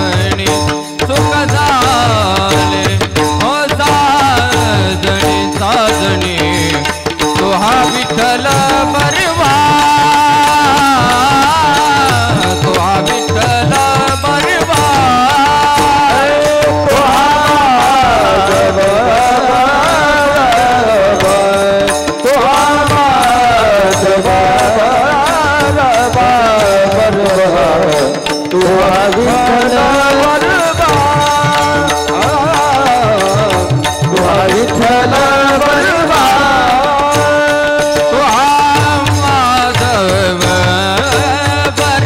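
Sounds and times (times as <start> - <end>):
devotional melody sung or played: 0.0 - 42.0
hand drums playing: 0.0 - 42.0.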